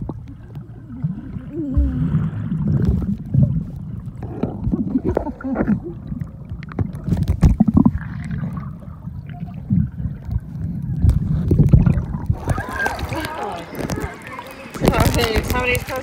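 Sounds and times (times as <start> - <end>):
underwater churning and bubbling: 0.0 - 16.0.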